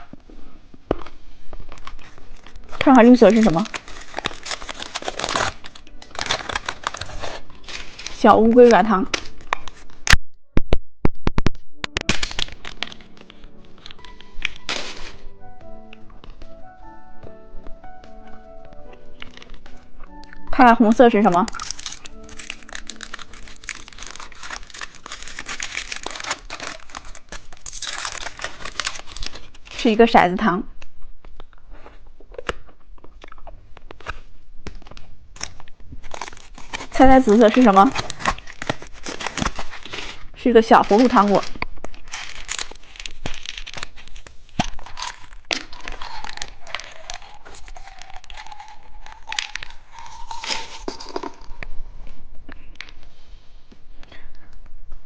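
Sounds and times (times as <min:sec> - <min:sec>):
candy wrapper crinkling: 0:01.0 - 0:10.2, 0:11.8 - 0:15.4, 0:17.8 - 0:30.2, 0:32.2 - 0:53.0.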